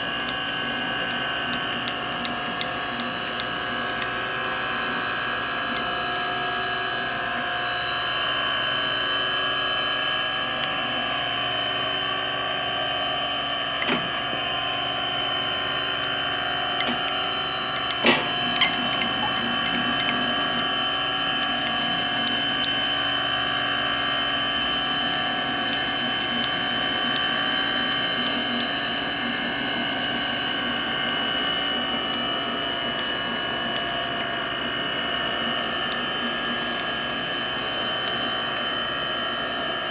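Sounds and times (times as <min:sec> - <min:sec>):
surface grinder motor humming: 0:00.0 - 0:39.9.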